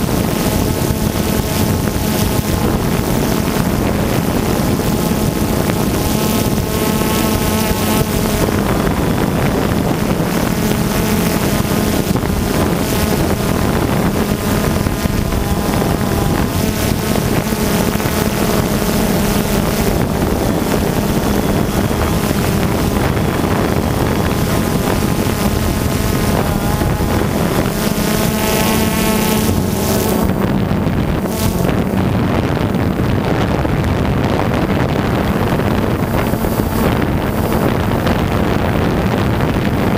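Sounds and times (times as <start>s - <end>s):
drone propellers buzzing: 0.0s - 39.9s
wind noise on microphone: 0.0s - 39.9s.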